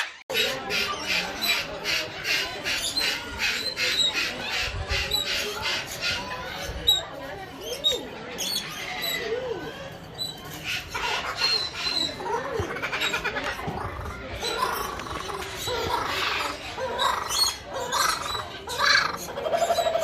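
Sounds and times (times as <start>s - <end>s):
parrots squawking and chattering: 0.0s - 20.0s.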